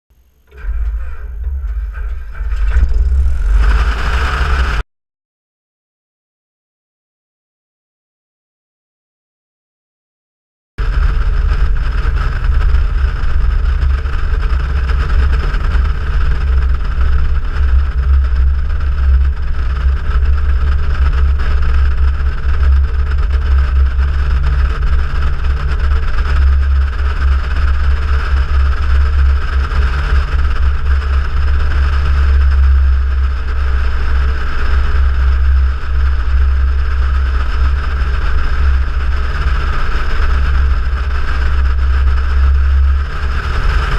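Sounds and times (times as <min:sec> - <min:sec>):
propeller aircraft engine drone: 0:00.2 - 0:04.8, 0:10.8 - 0:43.9.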